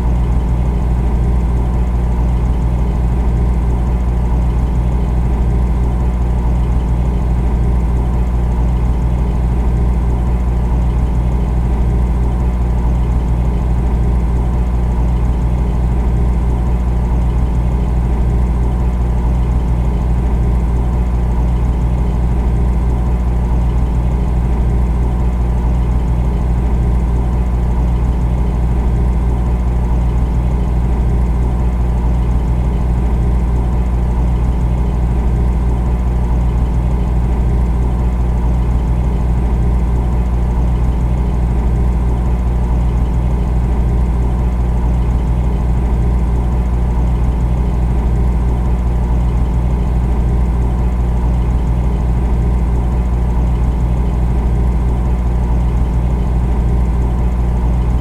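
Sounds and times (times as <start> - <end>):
refrigerator hum: 0.0 - 58.0.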